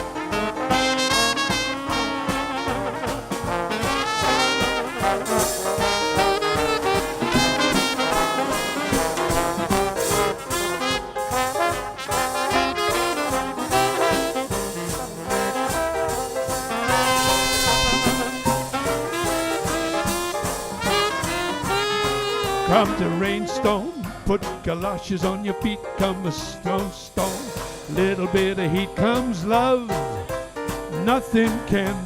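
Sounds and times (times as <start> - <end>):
trumpet: 0.0 - 24.4, 26.0 - 30.4
jazz band playing: 0.0 - 32.0
trombone: 0.0 - 32.0.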